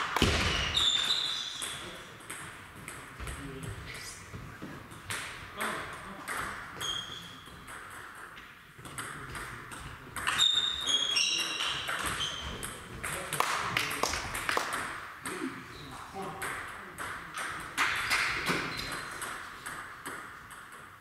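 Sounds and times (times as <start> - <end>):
shoes squeaking on hall floor: 0.2 - 13.3, 15.2 - 16.2, 17.2 - 20.5.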